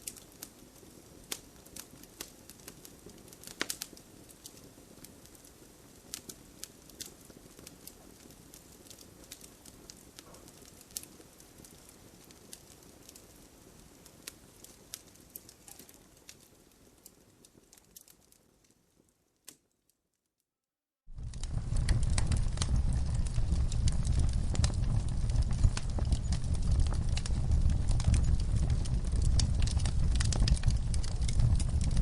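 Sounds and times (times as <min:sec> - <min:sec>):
wood fire crackling: 0:00.0 - 0:19.8, 0:21.1 - 0:32.0.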